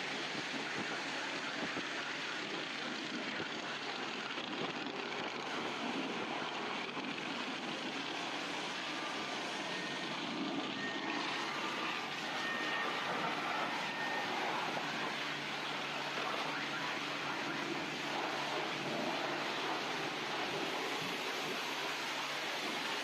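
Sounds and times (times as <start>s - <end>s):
car wash equipment rushing: 4.6s - 23.0s.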